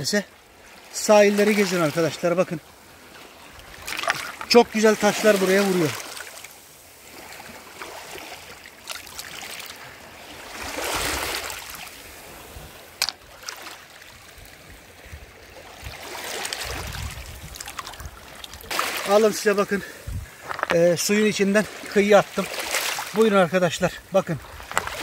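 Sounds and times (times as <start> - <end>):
waves washing over pebbles: 0.7 - 25.0.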